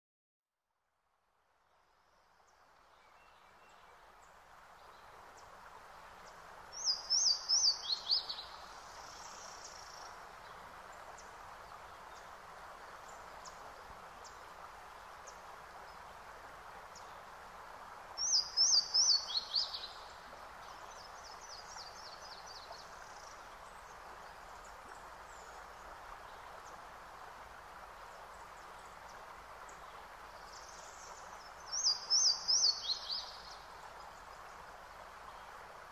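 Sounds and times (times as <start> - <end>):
steady hiss: 1.8 - 35.9
songbird chirping: 2.0 - 14.6, 18.1 - 35.8.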